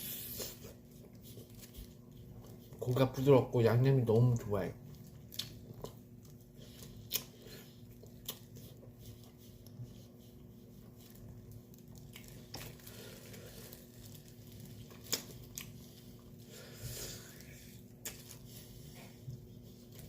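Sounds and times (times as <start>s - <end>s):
person chewing: 0.0s - 3.1s, 4.1s - 20.0s
steady low hum: 0.0s - 20.0s.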